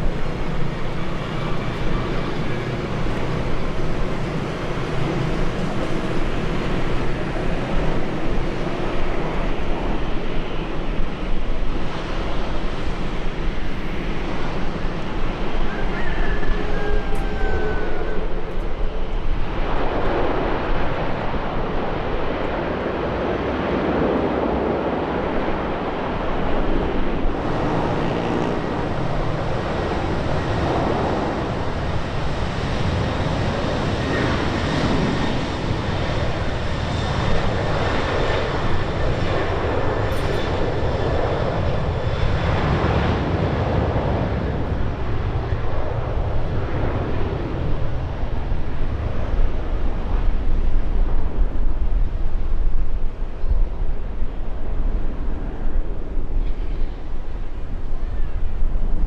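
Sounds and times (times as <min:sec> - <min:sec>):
jet airliner engines: 0:00.0 - 0:59.0.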